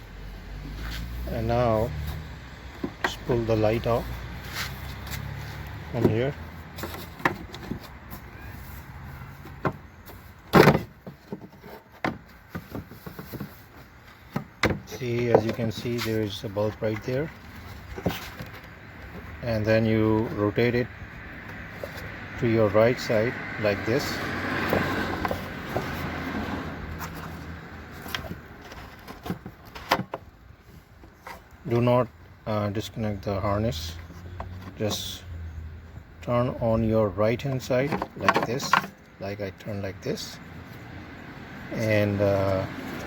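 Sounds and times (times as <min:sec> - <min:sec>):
vehicle hum: 0:00.0 - 0:43.0.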